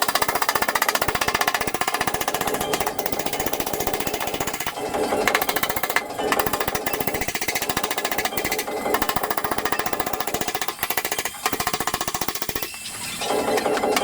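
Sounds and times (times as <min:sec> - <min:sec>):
power hammer striking sheet metal: 0:00.0 - 0:14.0.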